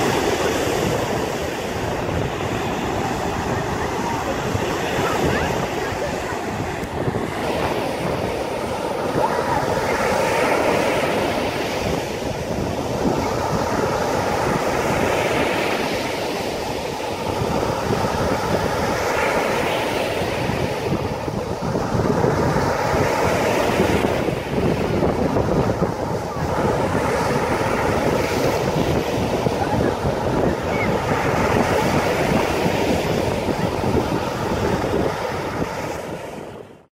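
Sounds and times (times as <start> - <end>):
churning water rushing: 0.0 - 36.9
waves breaking: 0.0 - 36.9
wind on the microphone: 0.0 - 36.9.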